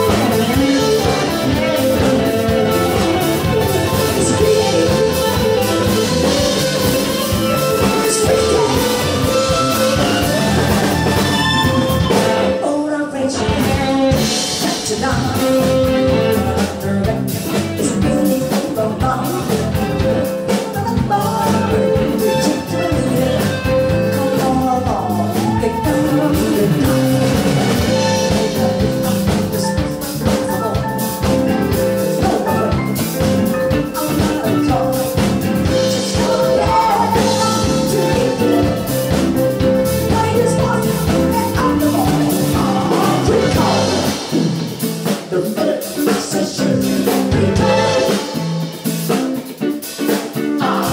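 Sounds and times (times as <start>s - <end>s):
woman singing: 0.0s - 44.3s, 45.3s - 48.4s, 50.5s - 50.9s
drum kit: 0.0s - 50.9s
electric guitar: 0.0s - 50.9s.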